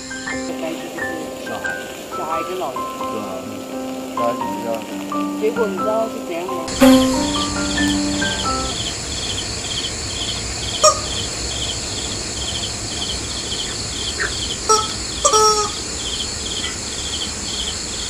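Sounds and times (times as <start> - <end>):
crickets chirping: 0.0 - 18.0
high insect hiss: 0.0 - 18.0.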